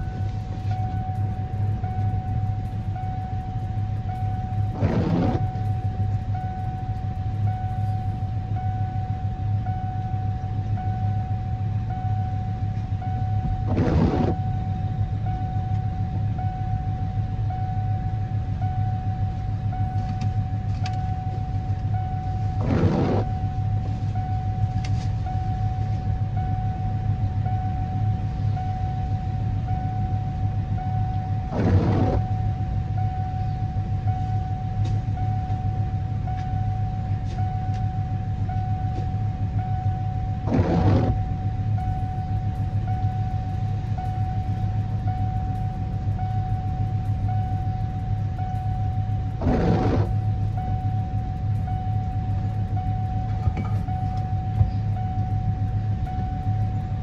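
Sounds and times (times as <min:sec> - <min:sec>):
thin steady tone: 0:00.0 - 0:57.0
van engine idling: 0:00.0 - 0:57.0.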